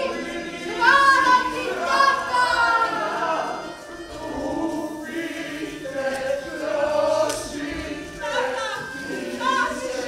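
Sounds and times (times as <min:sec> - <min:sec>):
chorus singing: 0:00.0 - 0:10.0.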